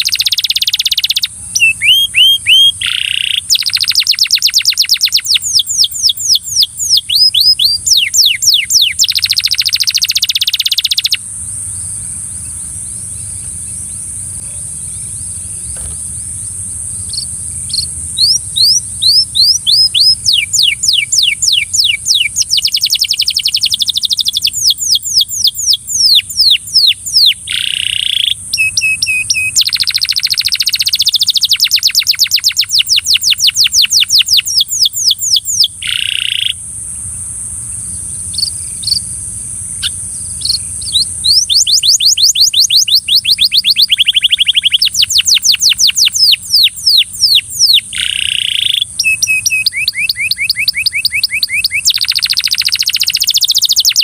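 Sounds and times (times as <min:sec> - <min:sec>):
canary singing trills: 0:00.0 - 0:36.6, 0:37.8 - 0:54.0
steady high hiss: 0:00.0 - 0:54.0.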